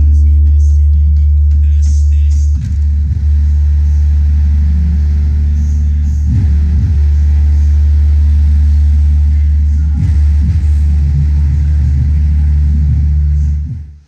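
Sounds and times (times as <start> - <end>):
loud bass music from car trunk: 0.0 - 14.0.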